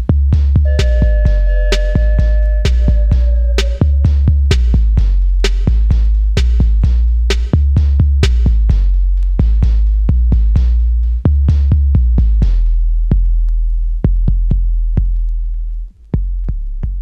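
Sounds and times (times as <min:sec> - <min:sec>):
drum-machine beat: 0:00.0 - 0:15.3
deep sub-bass: 0:00.0 - 0:17.0
hi-hats: 0:00.0 - 0:17.0.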